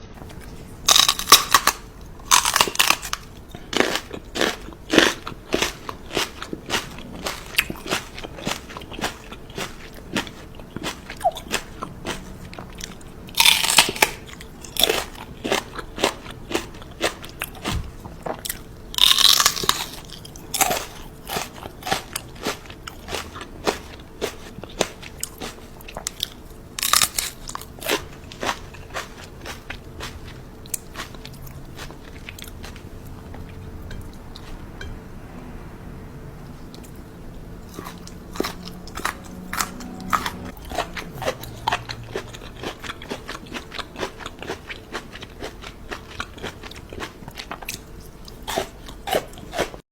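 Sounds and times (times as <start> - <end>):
crunchy food being chewed: 0.2 - 34.8, 36.7 - 49.8.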